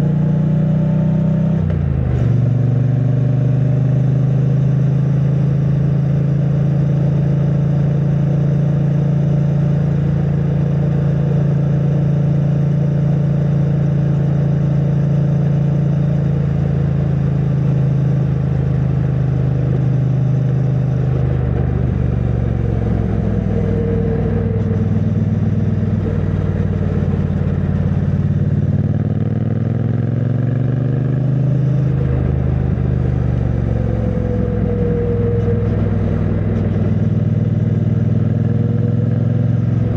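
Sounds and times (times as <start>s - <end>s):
motorcycle engine riding along: 0.0s - 39.9s.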